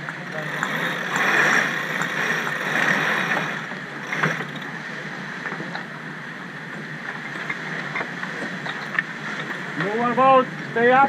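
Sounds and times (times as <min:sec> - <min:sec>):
water rushing past boat: 0:00.0 - 0:11.0
wind: 0:00.0 - 0:11.0.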